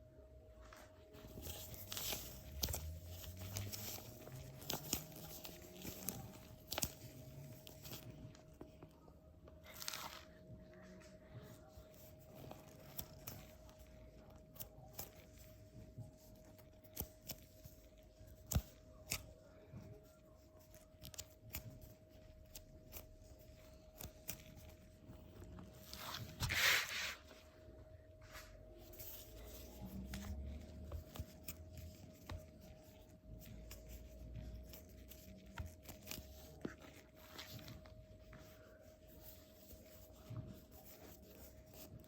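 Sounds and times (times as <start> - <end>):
foam toy rustling: 0.5 - 42.0.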